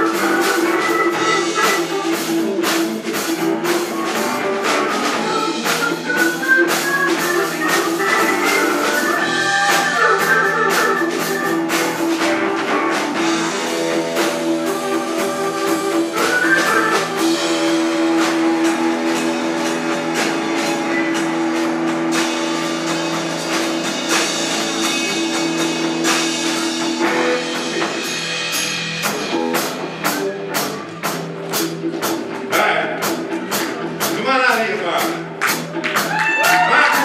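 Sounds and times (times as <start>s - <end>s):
held keyboard chords: 0.0s - 36.1s
rock band playing: 0.0s - 37.0s.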